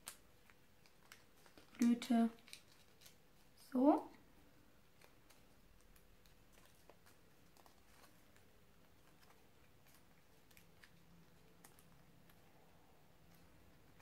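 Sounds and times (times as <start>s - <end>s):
paper crinkling: 0.0s - 3.6s, 4.8s - 14.0s.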